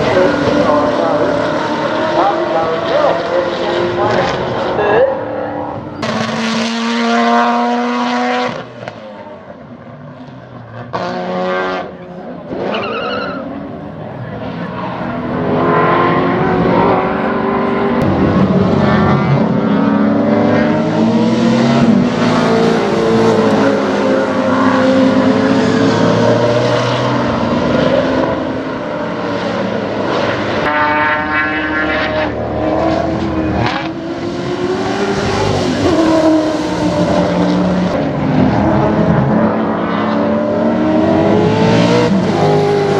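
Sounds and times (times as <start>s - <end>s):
race car engines accelerating: 0.0s - 42.9s.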